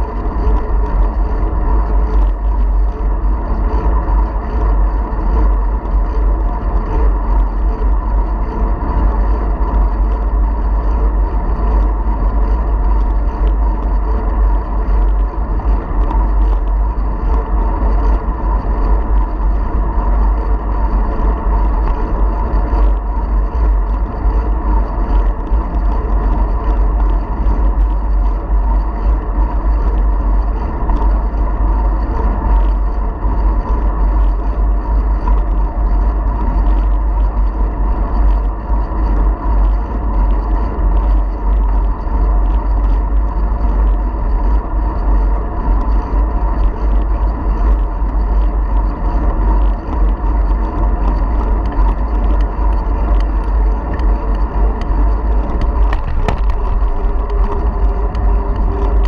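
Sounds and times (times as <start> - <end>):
bicycle tyre and drivetrain noise: 0.0 - 59.0
wind rumbling on microphone: 0.0 - 59.0.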